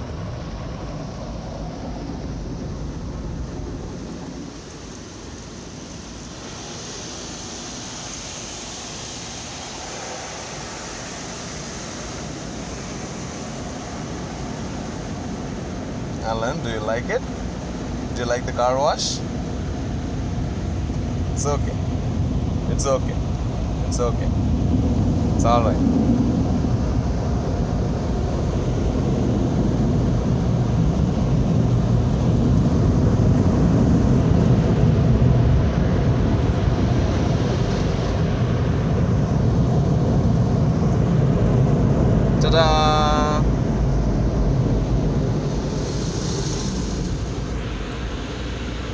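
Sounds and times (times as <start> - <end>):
car wash rushing noise: 0.0 - 48.9.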